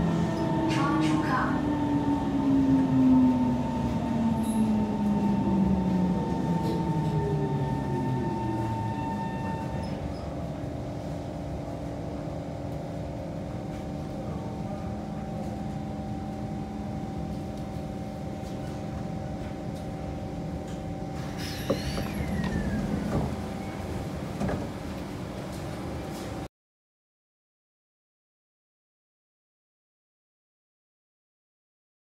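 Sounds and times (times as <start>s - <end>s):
train electrical hum: 0.0s - 26.5s.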